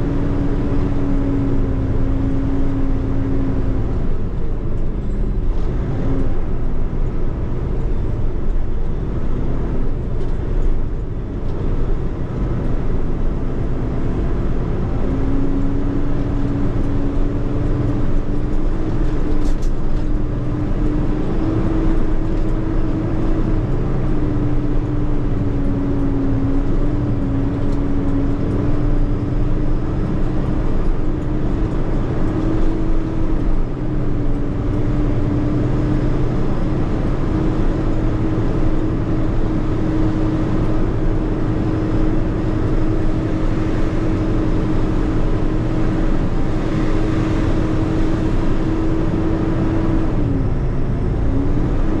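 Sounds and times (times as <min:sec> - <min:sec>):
truck diesel engine drone: 0:00.0 - 0:52.0.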